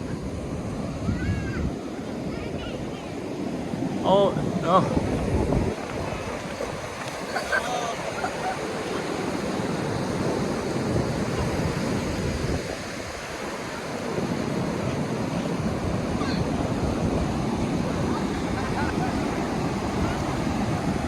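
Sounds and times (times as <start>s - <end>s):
surf washing up a beach: 0.0s - 21.0s
wind buffeting microphone: 0.0s - 21.0s.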